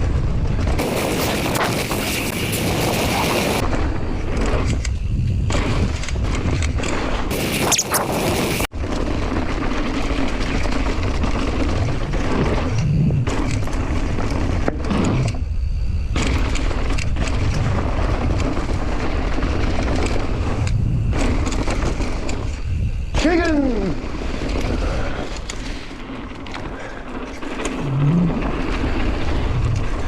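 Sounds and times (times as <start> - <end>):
bike tyre and trail rumble: 0.0 - 30.0
wind buffeting microphone: 0.0 - 30.0.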